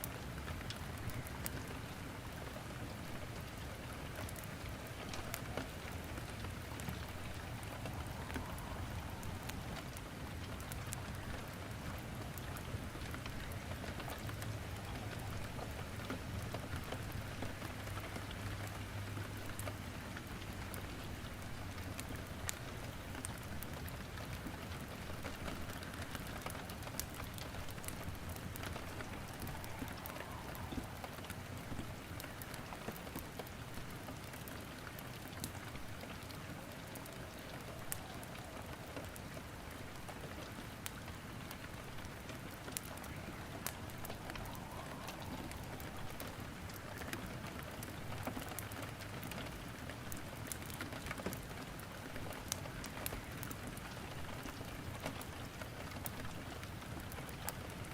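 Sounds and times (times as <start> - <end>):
steady rain falling: 0.0 - 57.9
wood crackling in fireplace: 0.0 - 57.9.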